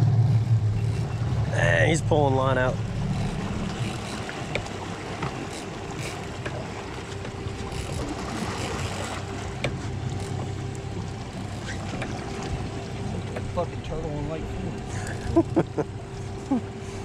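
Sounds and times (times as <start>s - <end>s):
outboard motor idling: 0.0s - 17.0s
water and wind noise: 0.0s - 17.0s.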